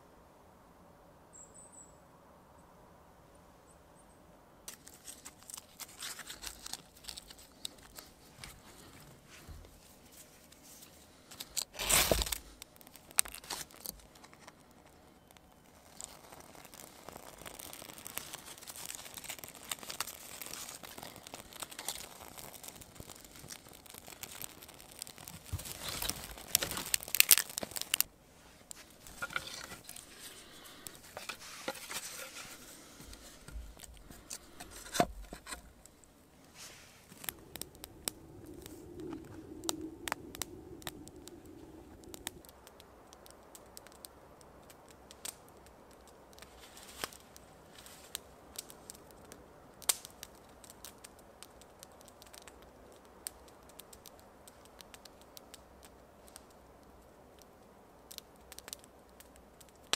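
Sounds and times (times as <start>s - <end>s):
rustling and crinkling: 4.7s - 42.6s, 45.1s - 56.6s.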